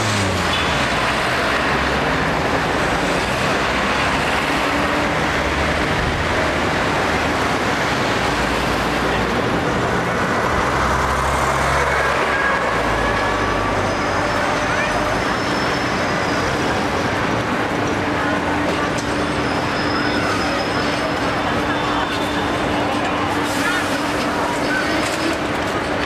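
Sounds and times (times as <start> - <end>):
road noise: 0.0 - 26.0
traffic engine rumble: 0.0 - 26.0.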